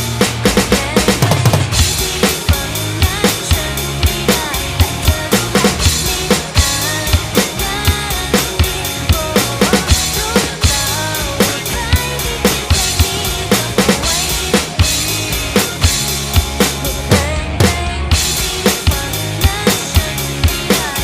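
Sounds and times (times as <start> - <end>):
acoustic drum kit rock beat: 0.0 - 21.0
recorded pop-rock song: 0.0 - 21.0.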